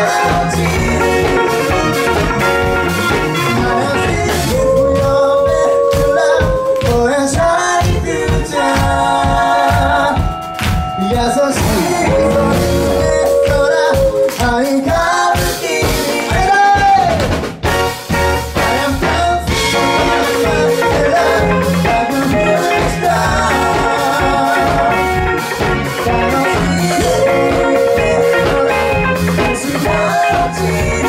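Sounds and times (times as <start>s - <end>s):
singers together: 0.0s - 17.3s, 18.7s - 31.0s
live band playing: 0.0s - 31.0s.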